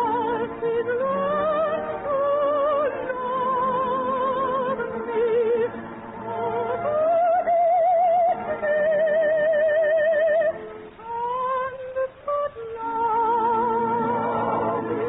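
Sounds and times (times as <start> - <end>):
orchestral music with vibrato: 0.0 - 15.0.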